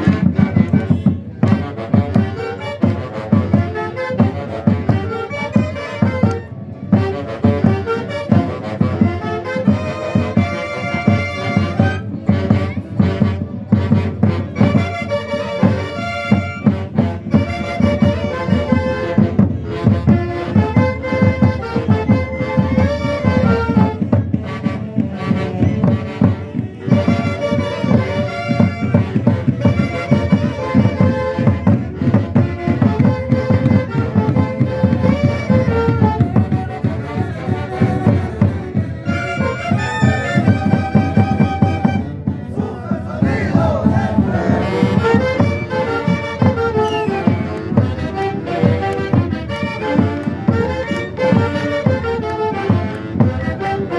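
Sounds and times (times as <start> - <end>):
steady drum beat: 0.0 - 53.9
wind instruments melody: 0.0 - 53.9.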